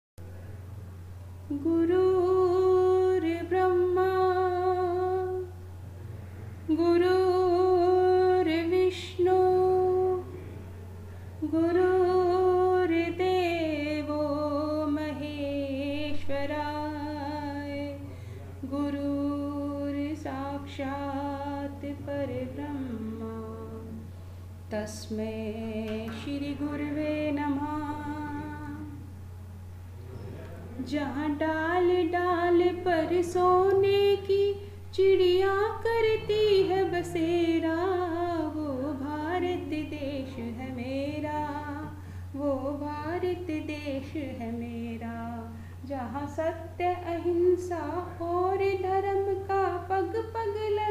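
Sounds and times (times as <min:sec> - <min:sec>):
steady low hum: 0:00.2 - 0:50.9.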